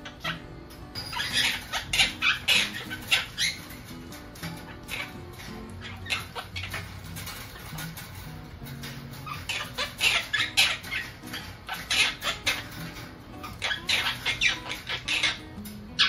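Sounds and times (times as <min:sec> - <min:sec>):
parrots chirping and squawking: 0:00.0 - 0:16.0.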